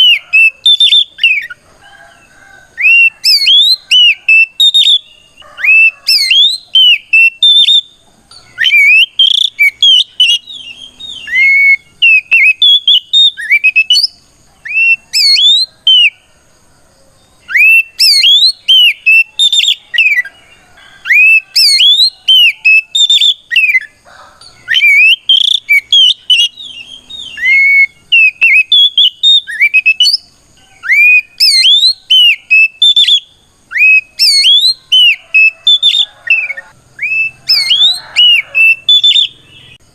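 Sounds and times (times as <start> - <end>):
bird singing whistled notes: 0.0 - 1.6, 2.7 - 16.2, 17.2 - 39.9.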